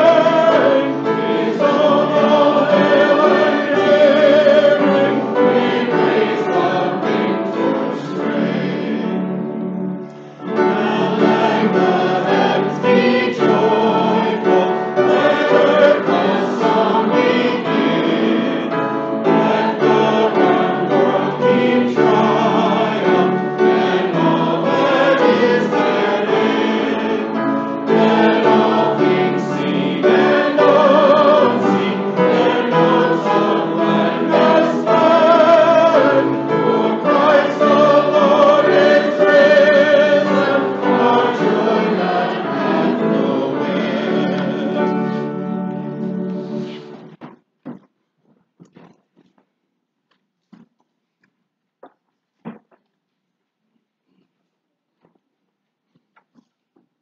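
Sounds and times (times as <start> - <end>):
congregation singing a hymn: 0.0 - 47.2.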